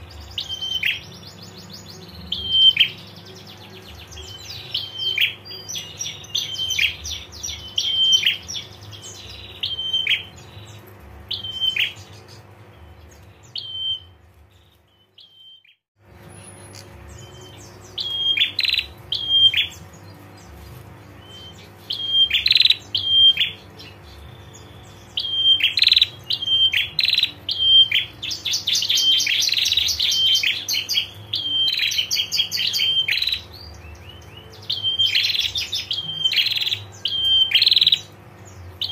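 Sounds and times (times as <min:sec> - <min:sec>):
songbird chirping and trilling: 0:00.0 - 0:38.9
steady low hum: 0:00.0 - 0:38.9.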